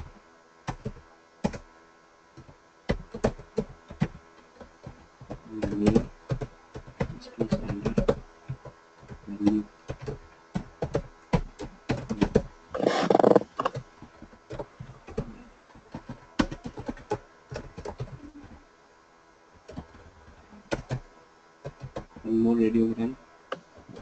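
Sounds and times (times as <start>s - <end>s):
computer keyboard typing: 0.7s - 1.7s, 2.4s - 18.6s, 19.7s - 22.3s.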